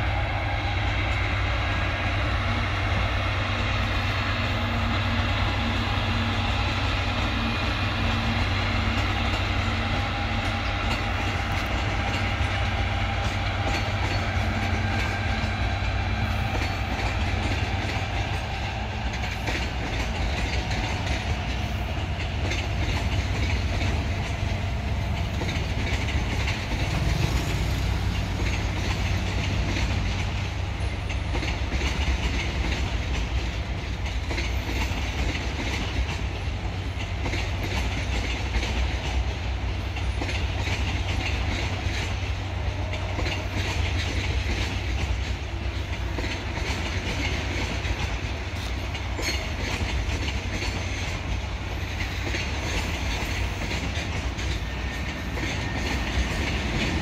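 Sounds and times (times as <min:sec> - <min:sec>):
freight train wheels rattling: 0:00.0 - 0:57.0.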